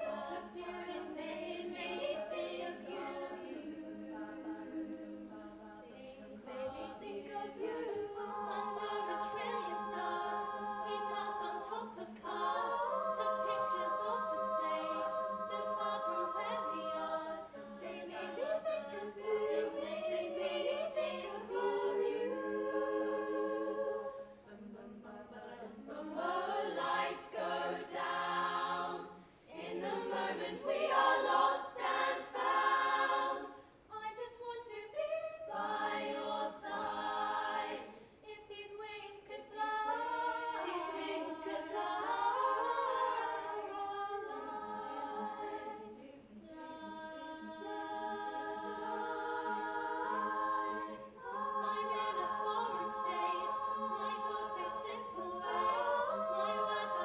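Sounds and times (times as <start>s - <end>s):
girls singing in close harmony: 0.0s - 57.0s.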